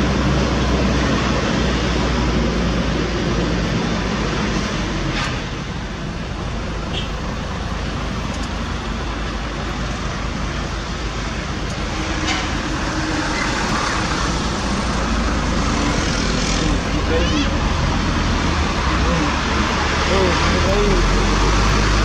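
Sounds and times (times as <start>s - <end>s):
heavy truck engine and road noise: 0.0s - 22.0s.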